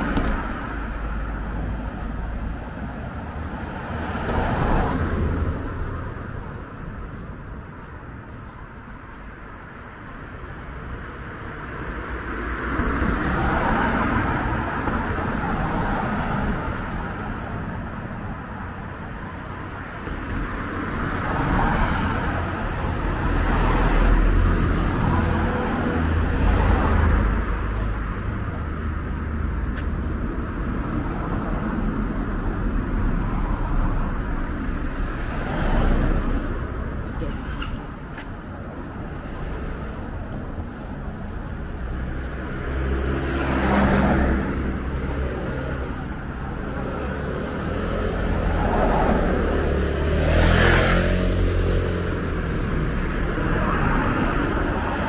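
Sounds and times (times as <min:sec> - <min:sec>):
cars passing: 0:00.0 - 0:55.0
deep traffic rumble: 0:00.0 - 0:55.0.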